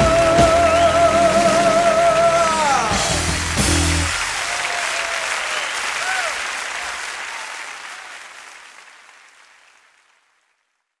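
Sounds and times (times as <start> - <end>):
audience cheering: 0.0 - 9.7
audience applauding: 0.2 - 11.0.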